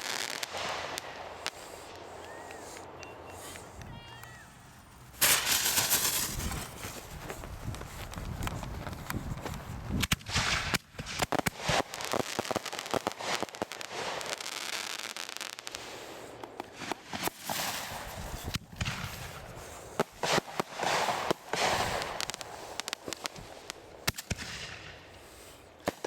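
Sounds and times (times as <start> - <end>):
fireworks crackling hiss: 0.0 - 26.0
fireworks popping and banging: 0.0 - 26.0.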